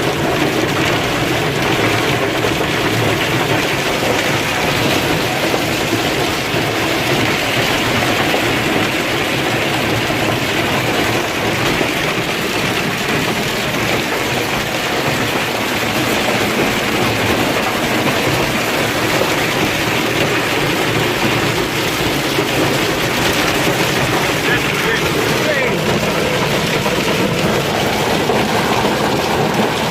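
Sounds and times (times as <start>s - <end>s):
heavy hail pounding: 0.0s - 29.9s.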